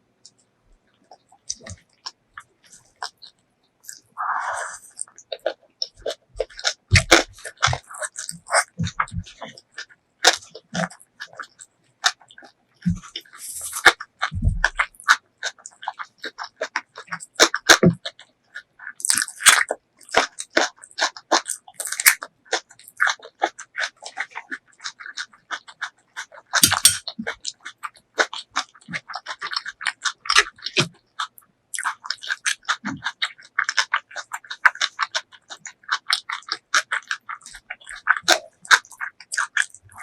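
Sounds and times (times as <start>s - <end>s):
wet chewing and lip smacking: 0.2s - 40.0s.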